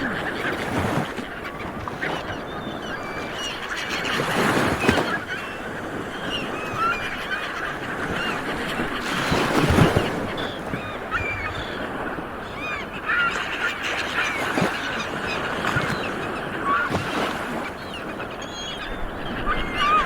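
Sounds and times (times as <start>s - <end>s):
sea birds honking calls: 0.0s - 20.0s.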